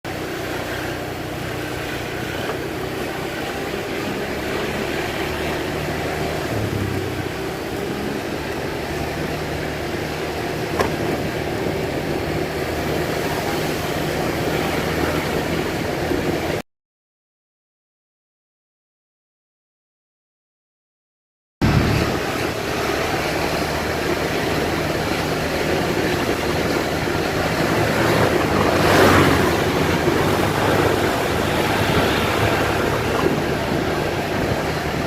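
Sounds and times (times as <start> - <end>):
road and wind noise: 0.0 - 16.6, 21.6 - 35.0
vehicle engine running: 0.1 - 16.6, 21.6 - 35.0.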